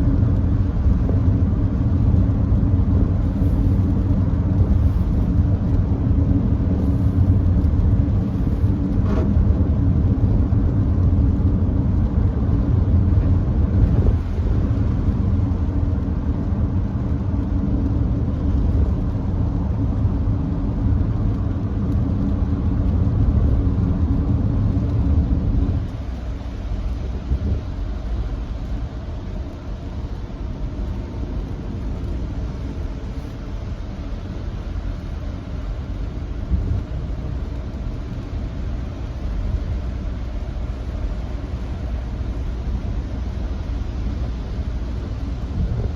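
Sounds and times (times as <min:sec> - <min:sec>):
road rumble and tyre noise: 0:00.0 - 0:45.9.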